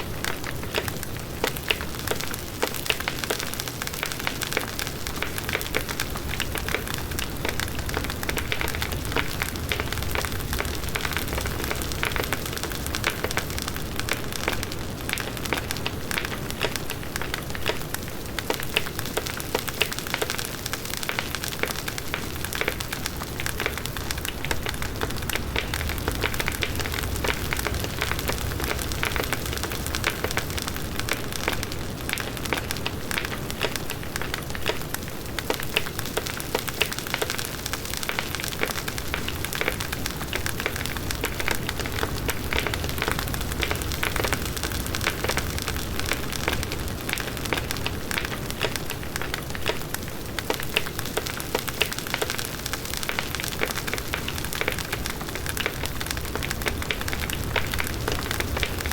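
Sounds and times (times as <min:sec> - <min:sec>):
bonfire crackling: 0:00.0 - 0:58.9.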